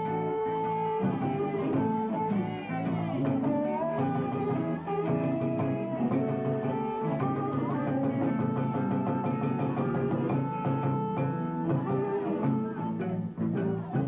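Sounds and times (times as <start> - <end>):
bass line: 0.0 - 14.0
electric blues band playing: 0.0 - 14.0
electric guitar with pitch bends: 0.0 - 14.0.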